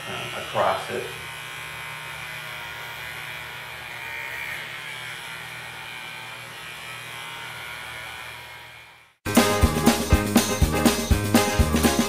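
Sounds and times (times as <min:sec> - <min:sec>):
pet clippers buzzing: 0:00.0 - 0:12.0.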